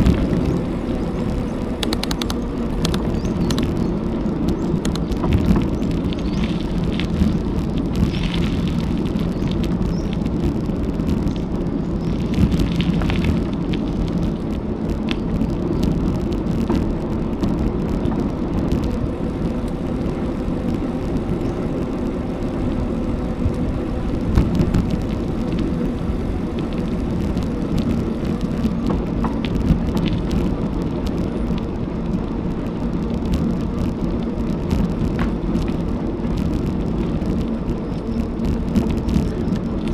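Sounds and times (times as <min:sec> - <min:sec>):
bicycle tyre noise: 0:00.0 - 0:39.9
wind on microphone: 0:00.0 - 0:39.9.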